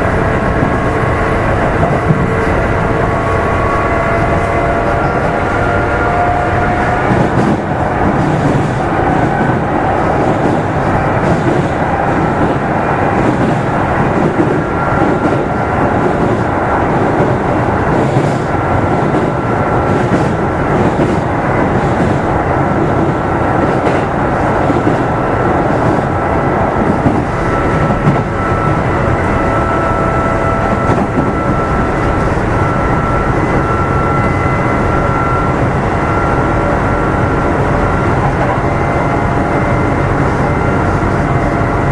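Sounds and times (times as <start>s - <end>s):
train motor and gear whine: 0.0s - 41.9s
train wheels rumbling on rail: 0.0s - 41.9s.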